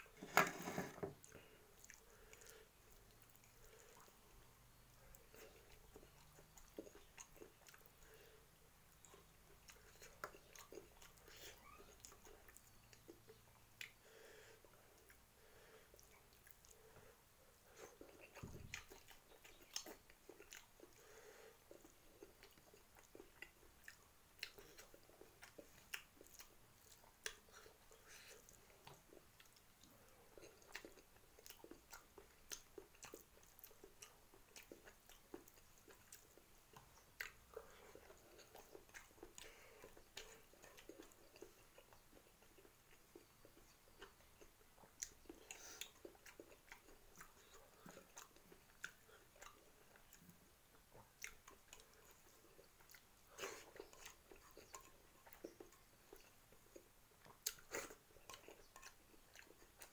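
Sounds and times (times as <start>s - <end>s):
person chewing noodles: 0.1s - 59.9s.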